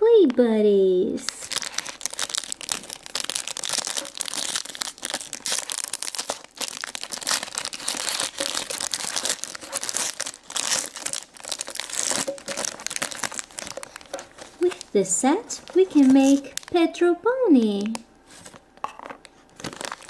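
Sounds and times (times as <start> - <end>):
crinkly packaging being torn open: 1.3 - 16.8, 19.2 - 20.0.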